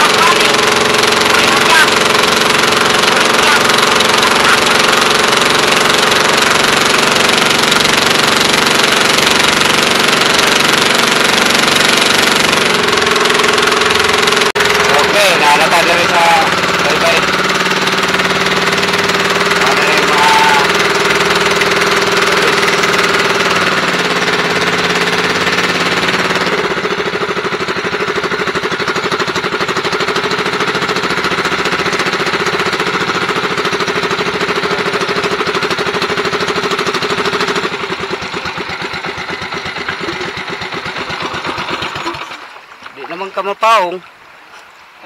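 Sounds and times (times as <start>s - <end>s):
small boat engine knocking: 0.0s - 44.1s.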